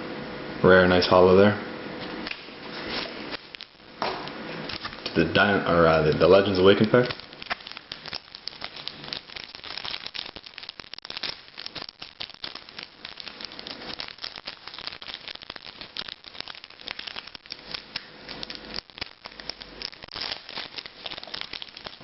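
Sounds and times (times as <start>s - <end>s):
foil wrapper crinkling: 2.7s - 22.0s.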